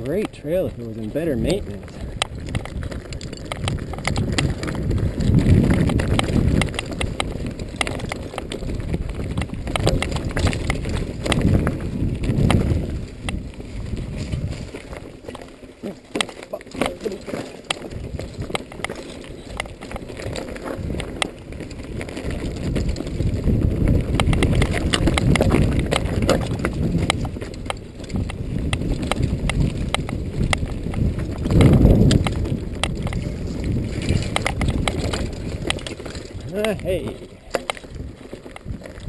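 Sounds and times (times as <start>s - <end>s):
bike chain and frame rattling: 0.0s - 39.0s
bike tyres rumbling on dirt: 0.0s - 39.0s.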